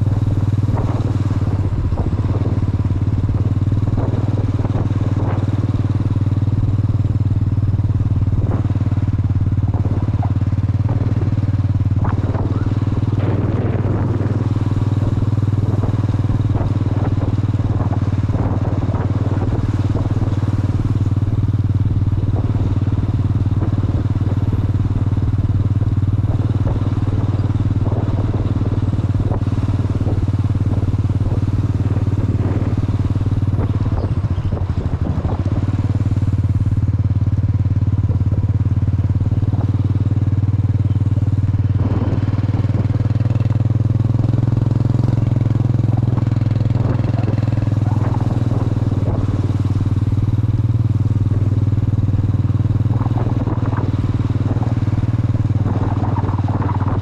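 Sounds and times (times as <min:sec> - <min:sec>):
wind and road rumble: 0:00.0 - 0:57.0.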